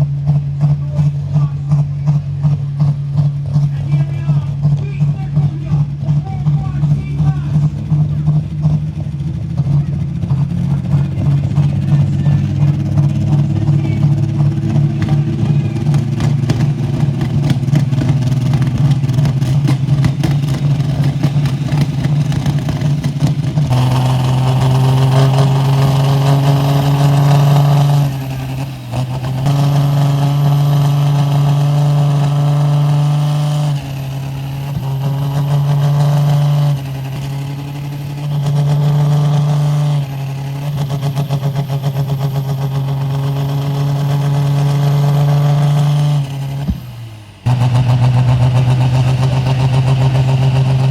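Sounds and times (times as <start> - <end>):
tractor engine running hard: 0.0 - 50.9.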